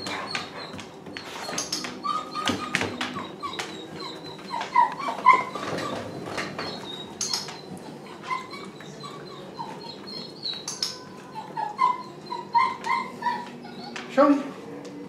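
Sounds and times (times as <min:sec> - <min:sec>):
dog whimpering: 0:00.0 - 0:14.9.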